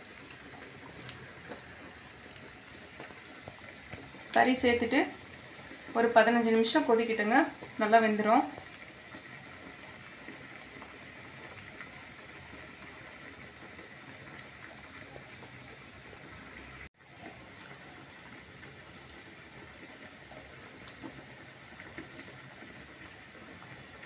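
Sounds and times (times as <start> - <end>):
pot boiling with hiss and bubbling: 0.0 - 24.0.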